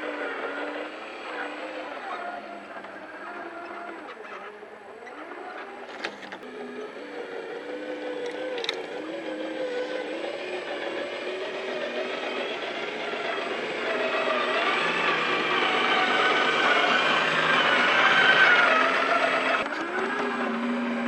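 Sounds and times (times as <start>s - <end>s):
toy truck motor and gears whining: 0.0s - 21.0s.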